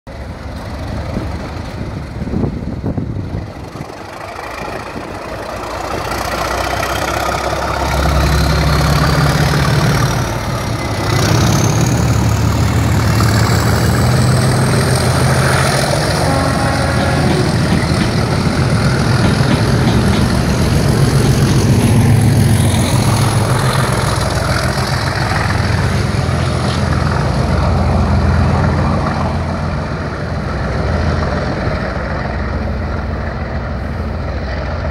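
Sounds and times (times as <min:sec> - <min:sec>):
diesel locomotive engines: 0:00.1 - 0:34.9.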